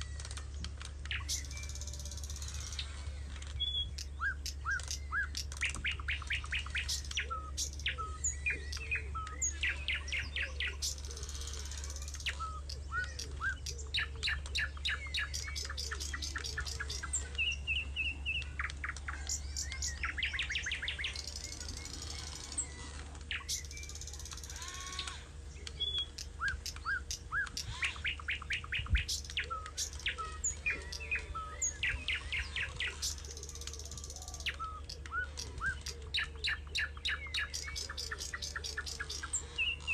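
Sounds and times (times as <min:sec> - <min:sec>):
birds chirping and trilling: 0:00.0 - 0:39.9
steady low hum: 0:00.0 - 0:39.9.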